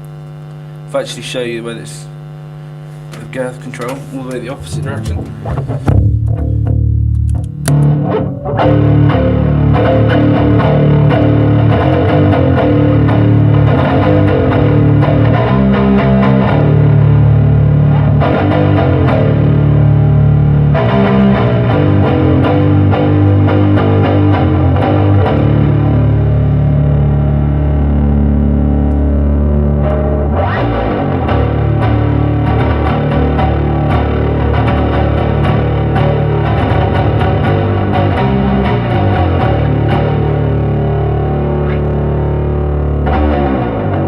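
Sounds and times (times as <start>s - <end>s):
distorted electric bass riff: 0.0s - 44.0s.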